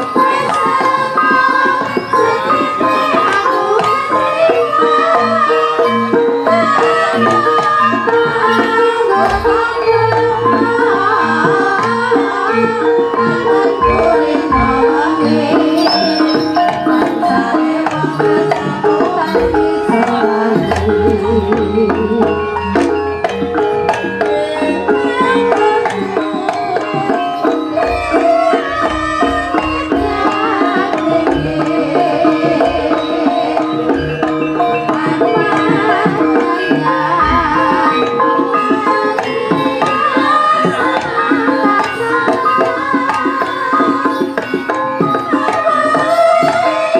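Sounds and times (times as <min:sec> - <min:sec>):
gamelan ensemble music: 0:00.0 - 0:46.9
hand drums: 0:00.0 - 0:46.9
pitched melodic instruments: 0:00.0 - 0:46.9.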